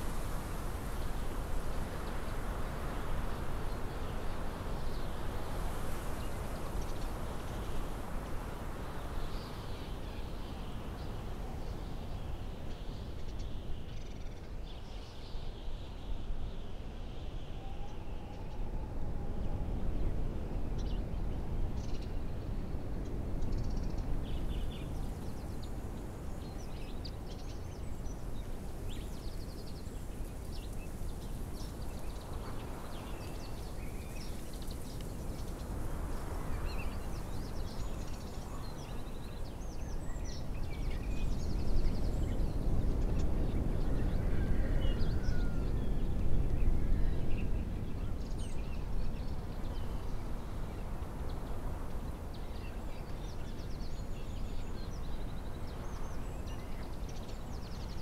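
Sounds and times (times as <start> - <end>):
low rumble of wind: 0.0 - 58.0.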